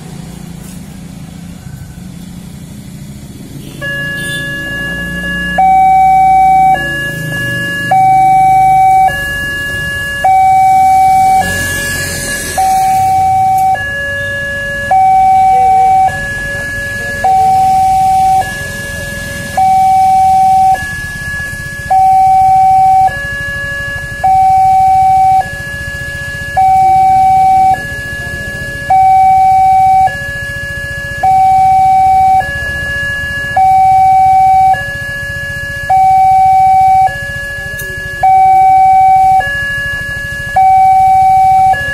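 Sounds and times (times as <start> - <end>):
two-tone level crossing alarm: 3.6 - 41.9.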